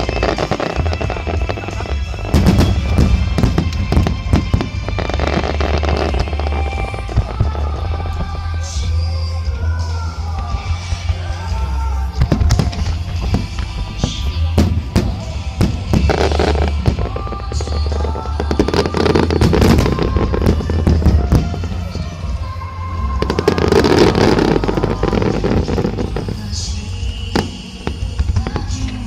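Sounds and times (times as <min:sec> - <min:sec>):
fireworks cracking and booming: 0:00.0 - 0:29.0
music: 0:00.0 - 0:29.0.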